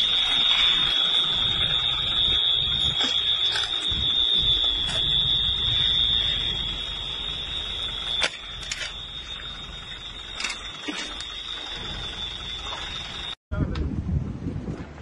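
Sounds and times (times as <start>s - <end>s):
high-pitched electronic alarm tone: 0.0s - 13.4s
low rumble: 0.0s - 15.0s.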